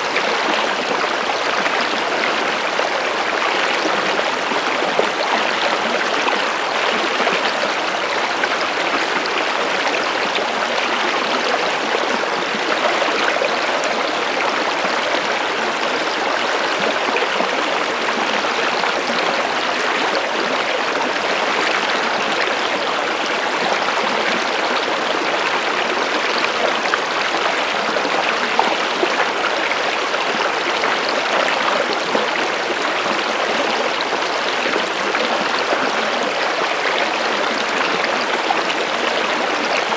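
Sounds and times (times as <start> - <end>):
stream water burbling over rocks: 0.0 - 39.9.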